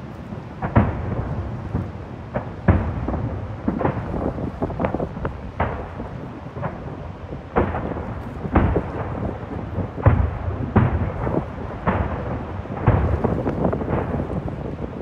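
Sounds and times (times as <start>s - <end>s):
distant fireworks booms: 0.0s - 15.0s.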